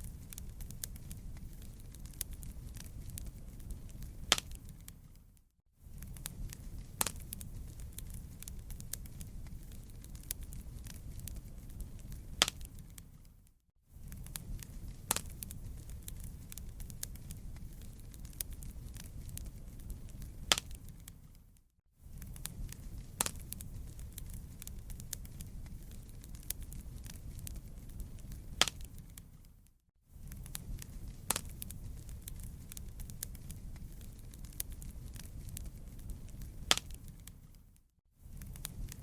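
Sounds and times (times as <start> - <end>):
campfire crackling and popping: 0.0 - 13.4, 14.0 - 39.0.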